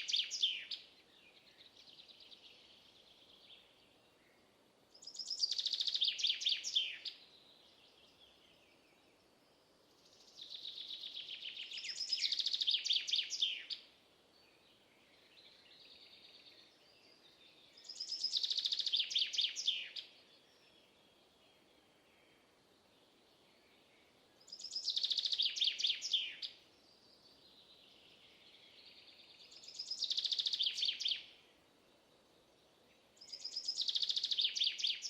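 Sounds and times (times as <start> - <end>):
songbird trilling song: 0.0 - 31.6, 32.6 - 35.0.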